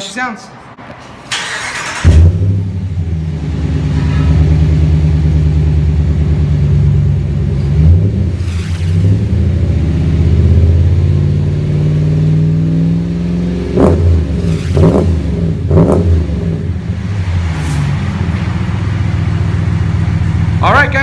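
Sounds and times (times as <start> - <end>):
engine exhaust revving: 1.3 - 21.0.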